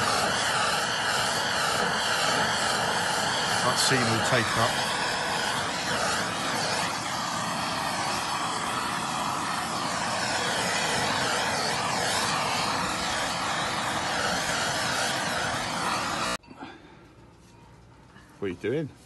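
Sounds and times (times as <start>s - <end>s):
gas blowtorch burning: 0.0s - 16.4s.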